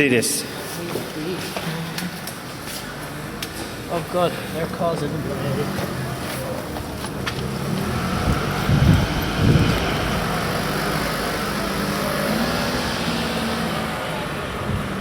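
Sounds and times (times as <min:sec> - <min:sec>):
car engines running: 0:01.1 - 0:15.0.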